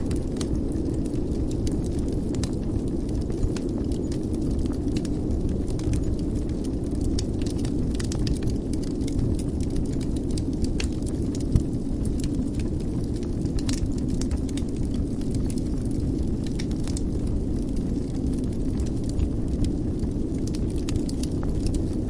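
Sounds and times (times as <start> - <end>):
fire crackling and popping: 0.0 - 22.0
fire rumbling: 0.0 - 22.0.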